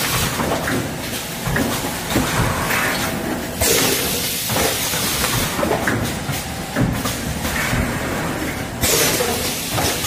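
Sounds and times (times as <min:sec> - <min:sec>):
machine clatter and knocks: 0:00.0 - 0:10.0.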